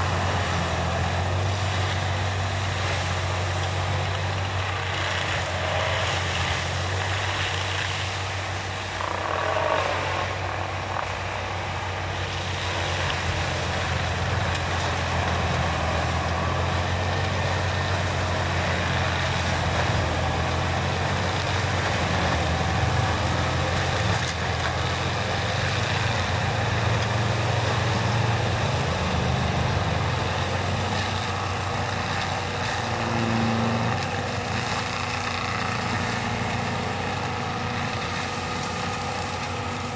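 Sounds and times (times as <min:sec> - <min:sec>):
mulcher shredding brush: 0:00.0 - 0:39.9
tractor diesel engine running: 0:00.0 - 0:39.9.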